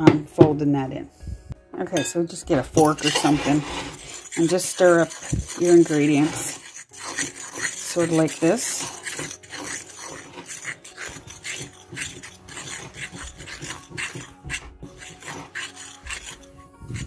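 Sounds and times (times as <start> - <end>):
fork scraping in bowl: 2.0 - 17.0.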